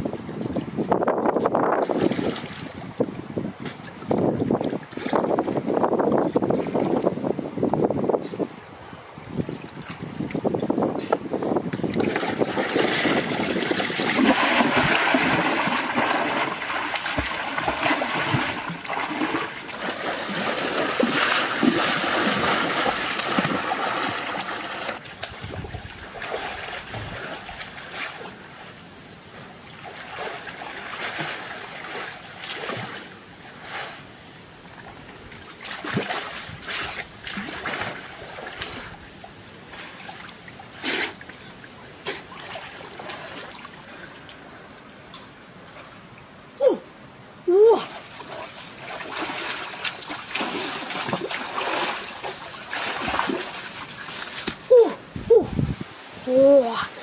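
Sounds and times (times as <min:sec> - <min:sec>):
water splashing and churning: 0:00.0 - 0:57.0.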